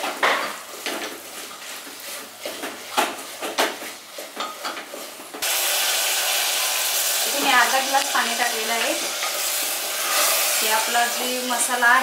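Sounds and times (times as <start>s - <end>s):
wooden spatula scraping a pot: 0.0s - 5.4s, 7.1s - 11.6s
loud steady sizzle: 0.0s - 12.0s.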